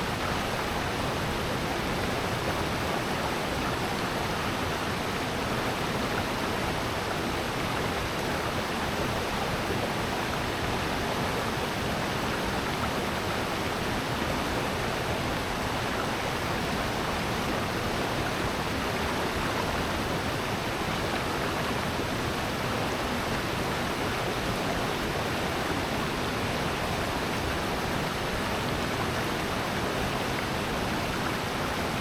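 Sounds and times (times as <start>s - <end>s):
flowing stream water: 0.0s - 32.0s.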